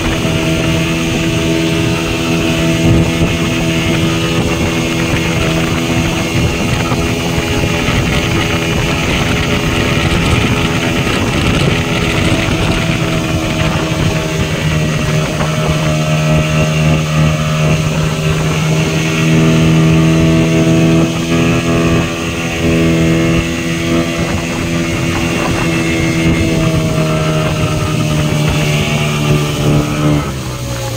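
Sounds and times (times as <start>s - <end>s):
speedboat engine running: 0.0s - 30.9s
water rushing from wake: 0.0s - 30.9s.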